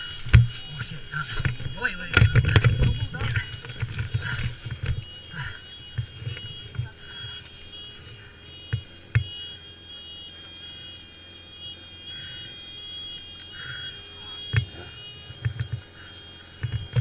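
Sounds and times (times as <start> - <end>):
high-pitched electronic tone: 0.0 - 17.0.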